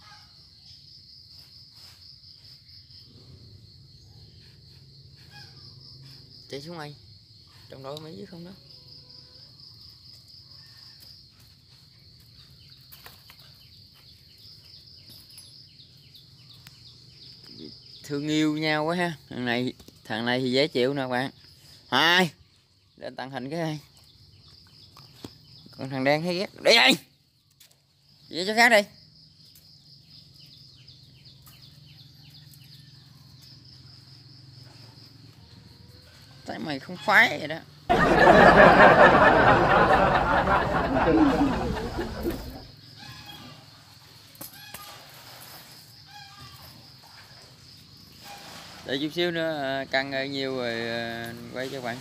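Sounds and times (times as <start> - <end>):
high-pitched insect trill: 0.0 - 37.9, 42.6 - 52.0.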